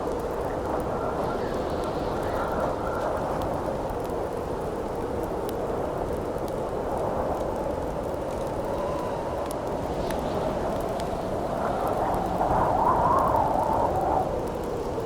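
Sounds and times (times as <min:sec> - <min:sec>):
campfire crackling: 0:00.0 - 0:15.0
howling wind: 0:00.0 - 0:15.0.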